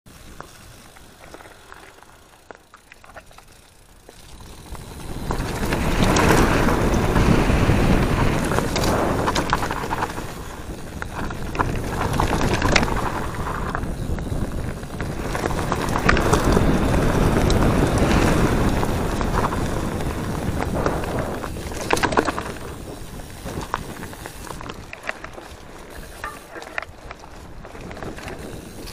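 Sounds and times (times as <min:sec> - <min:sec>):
bike rattling over bumps: 0:00.1 - 0:28.9
tyre and wind noise: 0:00.1 - 0:28.9.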